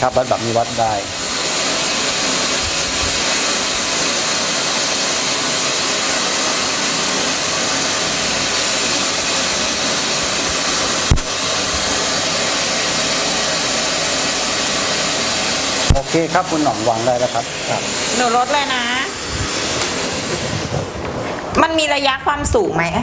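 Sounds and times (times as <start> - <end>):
test signal hiss from speaker: 0.0 - 19.5.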